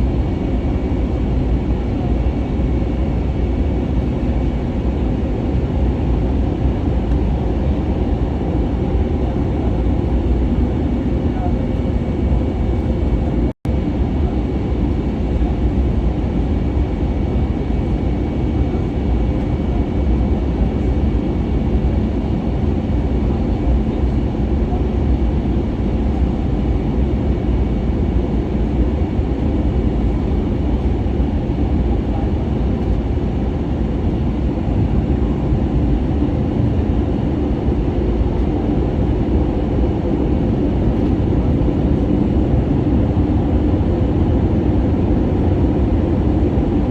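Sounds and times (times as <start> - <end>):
aircraft cabin engine rumble: 0.0 - 46.9.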